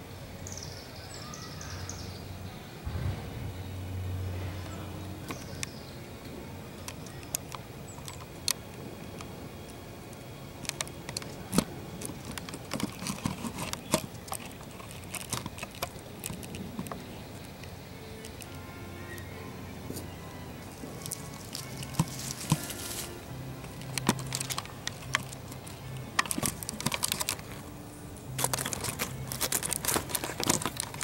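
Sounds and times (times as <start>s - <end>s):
dry leaves crackling: 2.8s - 31.0s.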